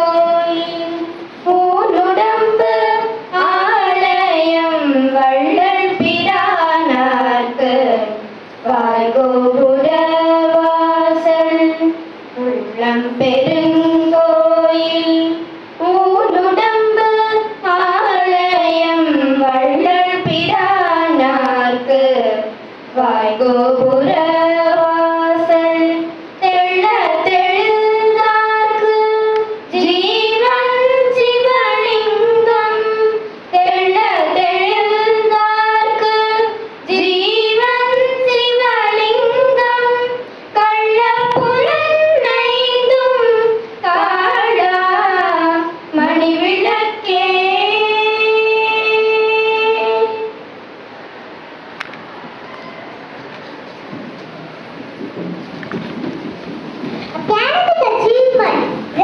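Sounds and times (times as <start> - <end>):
children singing a prayer song: 0.0 - 50.4.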